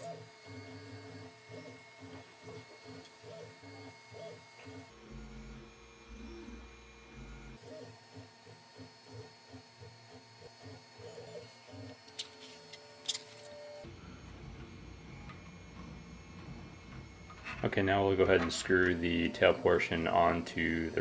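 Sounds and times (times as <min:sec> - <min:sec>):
printer stepper motors whirring: 0:00.0 - 0:21.0.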